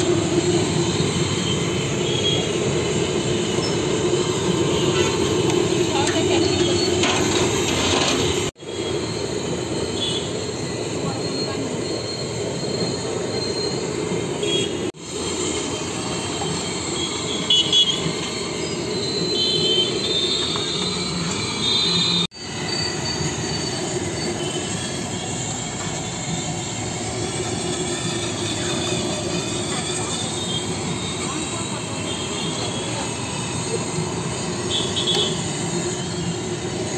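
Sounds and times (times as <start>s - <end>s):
oil sizzling and bubbling: 0.0s - 36.9s.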